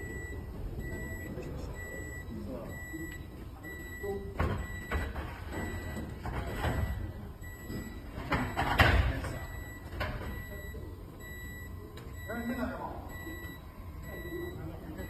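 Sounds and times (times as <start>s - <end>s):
faint high beep tone: 0.0s - 5.0s, 5.6s - 15.0s.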